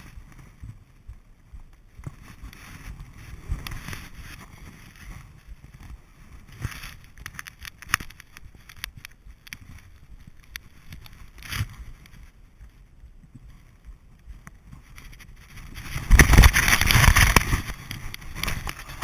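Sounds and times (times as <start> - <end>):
gear clicking and rustling: 0.0 - 19.0.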